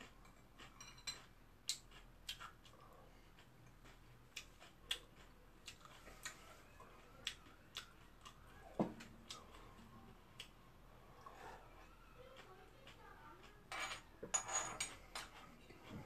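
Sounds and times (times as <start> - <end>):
person chewing softly: 0.0 - 13.7, 14.9 - 16.0.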